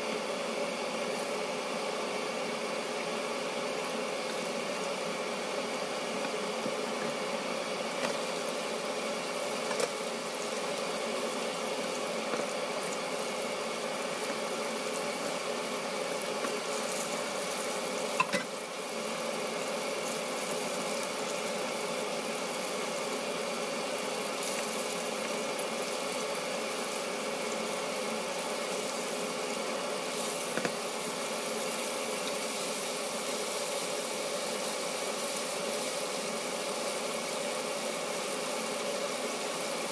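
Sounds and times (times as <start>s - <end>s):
oil sizzling and bubbling: 0.0s - 39.9s.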